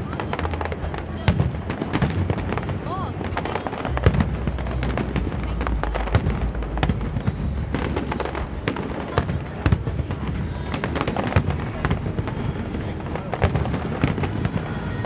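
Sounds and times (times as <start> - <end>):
fireworks bangs and crackles: 0.0 - 15.0
low rumble: 2.4 - 14.6.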